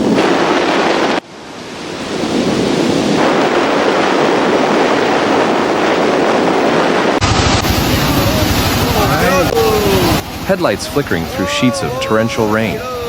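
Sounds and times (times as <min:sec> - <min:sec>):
rushing water roar: 0:00.0 - 0:13.0.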